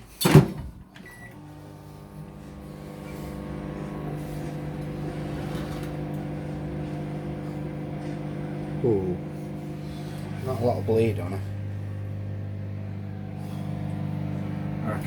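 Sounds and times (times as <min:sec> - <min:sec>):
microwave oven humming: 0:00.6 - 0:15.0.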